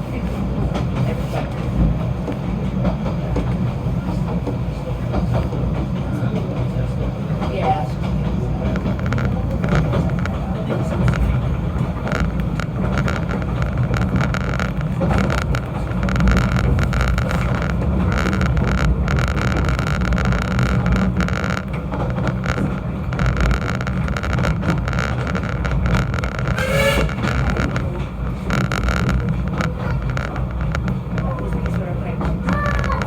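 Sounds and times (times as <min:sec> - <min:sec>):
train rumbling and rattling: 0:00.0 - 0:33.0.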